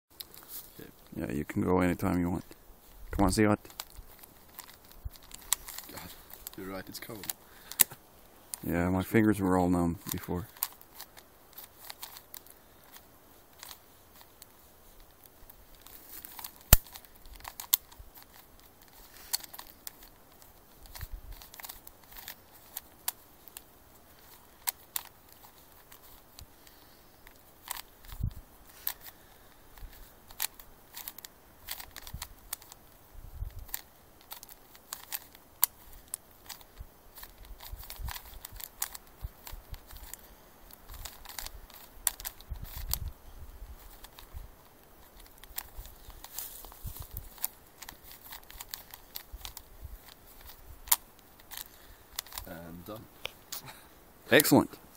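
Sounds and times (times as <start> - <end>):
puzzle cube clicking: 3.2 - 7.9, 10.0 - 52.5.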